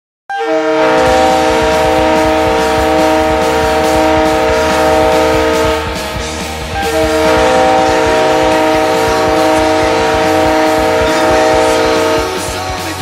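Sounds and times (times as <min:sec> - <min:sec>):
goal horn blast: 0:00.3 - 0:12.6.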